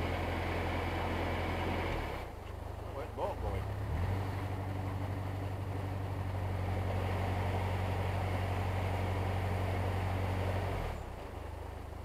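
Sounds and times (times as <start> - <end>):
boat diesel engine droning: 0.0 - 12.0.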